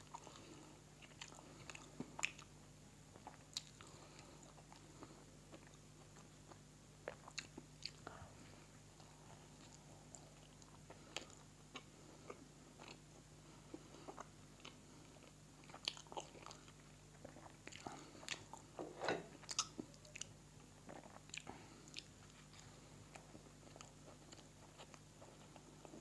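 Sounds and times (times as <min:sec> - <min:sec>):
faint steady low hum: 0:00.0 - 0:26.0.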